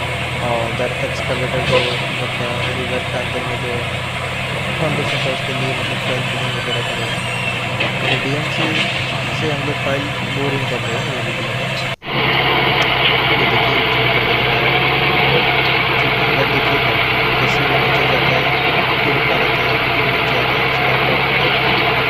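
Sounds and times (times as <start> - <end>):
winch engine running: 0.0 - 22.0.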